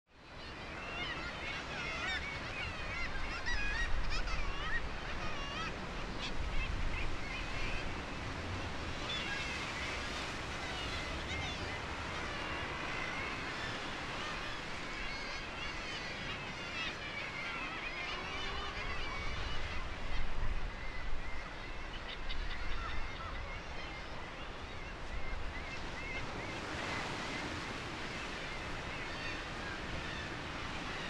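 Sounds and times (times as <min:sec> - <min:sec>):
seabirds calling: 0:00.2 - 0:31.0.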